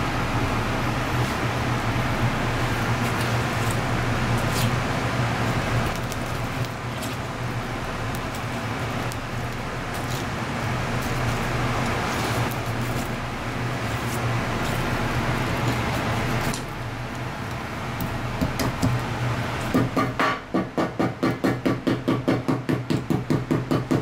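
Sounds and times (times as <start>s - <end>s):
machinery hum: 0.0s - 21.2s.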